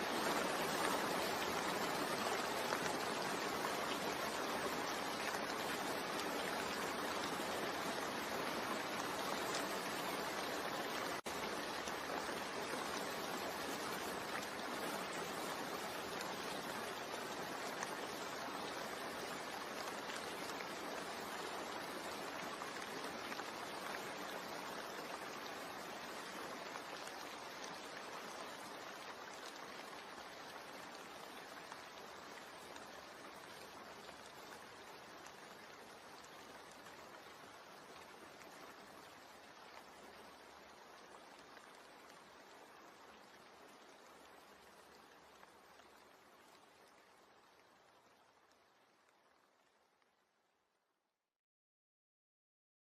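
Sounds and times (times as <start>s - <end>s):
steady rain: 0.0s - 50.7s.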